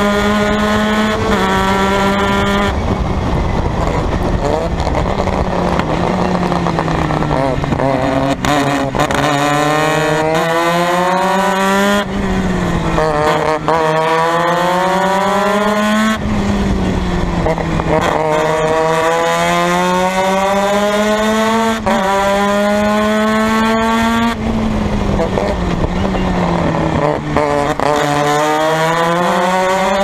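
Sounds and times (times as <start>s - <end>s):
race car engine at full throttle: 0.0s - 30.0s.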